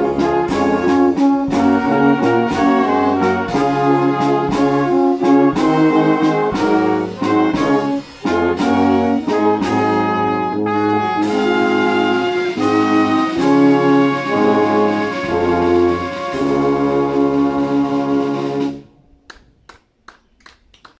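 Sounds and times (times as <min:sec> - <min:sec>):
percussion strokes: 0:00.0 - 0:18.8
brass band playing chords: 0:00.0 - 0:19.0.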